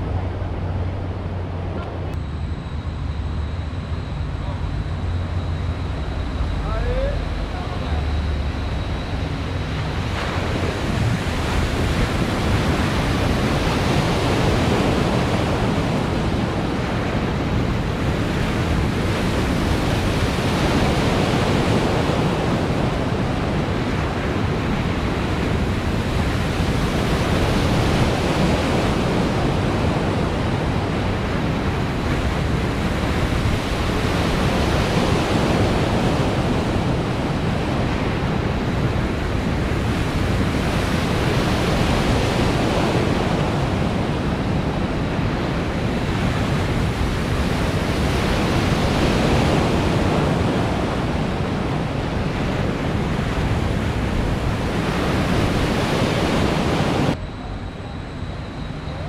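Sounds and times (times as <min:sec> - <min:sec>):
waves breaking and churning: 0:00.0 - 0:59.0.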